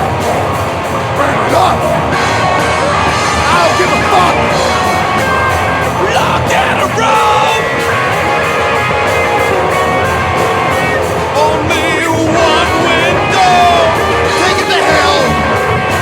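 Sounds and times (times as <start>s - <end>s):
loud punk rock song: 0.0s - 16.0s
sliding wavering lead guitar: 0.0s - 16.0s.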